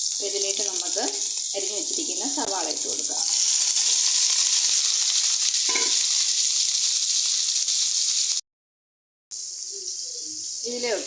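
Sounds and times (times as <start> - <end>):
onions sizzling in oil: 0.0 - 8.4, 9.4 - 11.0.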